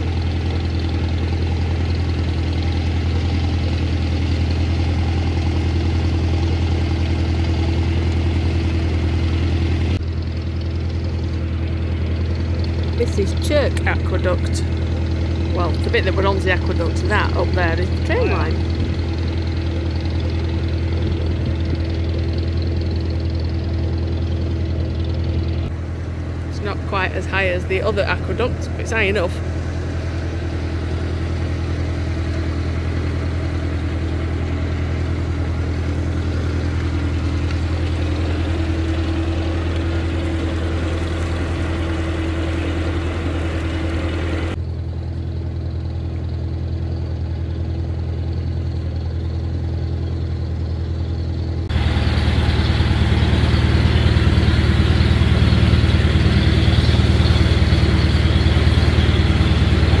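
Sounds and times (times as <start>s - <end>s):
boat diesel engine humming: 0.0s - 60.0s.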